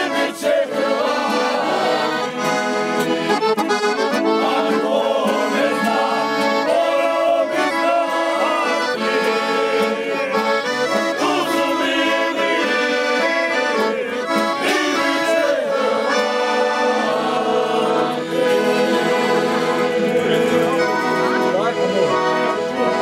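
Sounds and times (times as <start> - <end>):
men singing together: 0.0 - 2.7, 4.2 - 21.2
accordion playing folk tune: 0.0 - 23.0
acoustic guitar strumming: 0.0 - 23.0.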